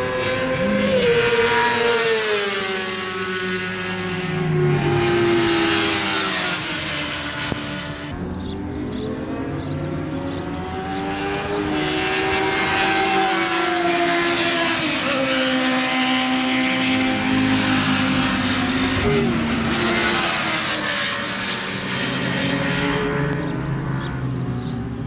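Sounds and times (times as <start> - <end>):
racing motorcycles passing: 0.0 - 25.0.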